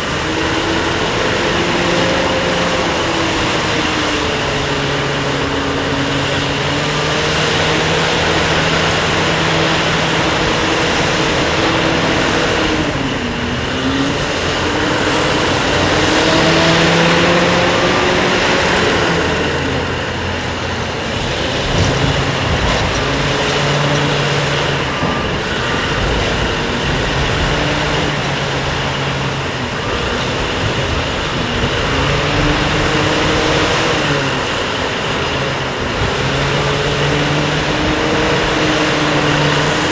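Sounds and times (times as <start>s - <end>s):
heavy mining machinery running: 0.0s - 39.9s.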